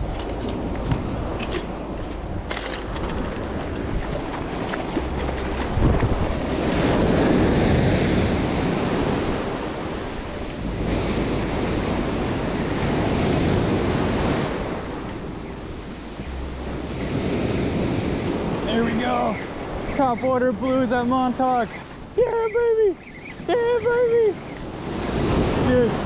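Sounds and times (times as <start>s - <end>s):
ocean surf breaking: 0.0s - 26.0s
wind rumbling on microphone: 0.0s - 26.0s.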